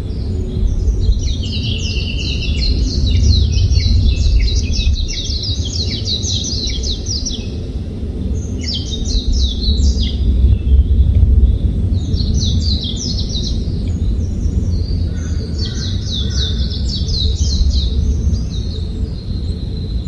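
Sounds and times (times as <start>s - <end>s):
low rumble of wind: 0.0s - 20.0s
songbird chirping: 0.0s - 20.0s.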